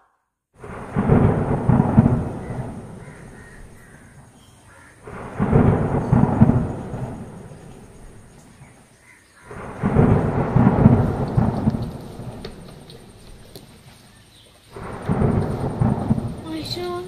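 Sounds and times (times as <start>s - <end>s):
rolls of thunder: 0.6s - 8.8s, 9.4s - 13.5s, 14.7s - 17.0s.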